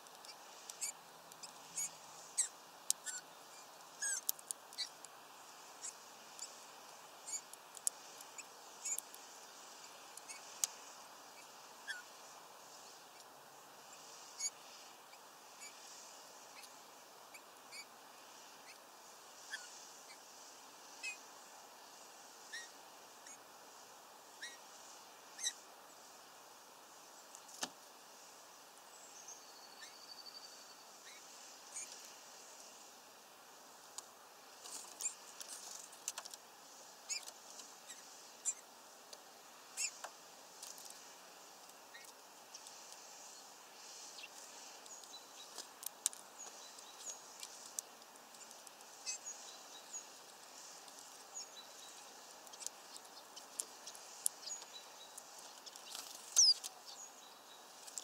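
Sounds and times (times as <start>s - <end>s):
small birds chirping: 0.0s - 33.0s, 33.6s - 58.0s
faint background hiss: 0.0s - 58.0s.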